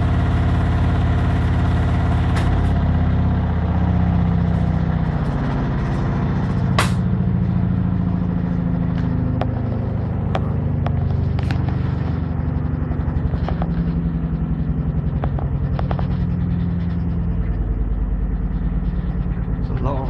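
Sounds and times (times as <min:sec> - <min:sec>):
washing machine spinning: 0:00.0 - 0:20.0.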